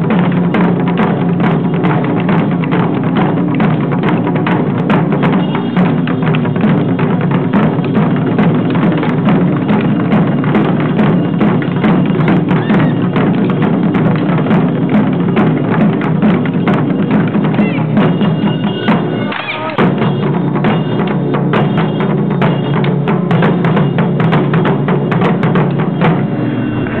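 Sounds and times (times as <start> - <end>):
taiko drums fast rhythm: 0.0 - 26.6.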